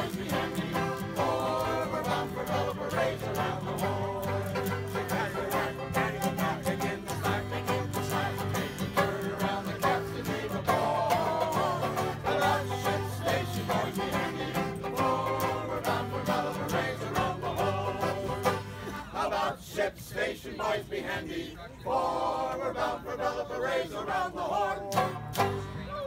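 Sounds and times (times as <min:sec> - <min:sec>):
banjo: 0:00.0 - 0:19.4, 0:24.5 - 0:26.0
accordion: 0:00.0 - 0:19.5, 0:24.1 - 0:26.0
men singing together: 0:00.0 - 0:25.2.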